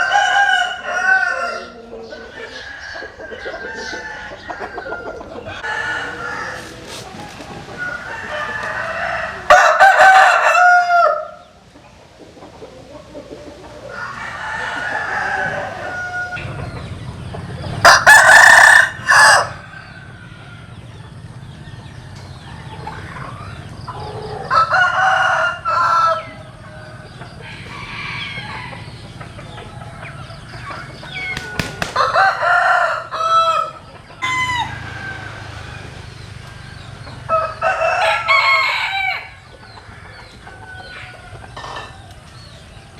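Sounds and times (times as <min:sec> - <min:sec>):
chickens clucking: 0:00.0 - 0:42.9
roosters crowing: 0:00.0 - 0:42.9.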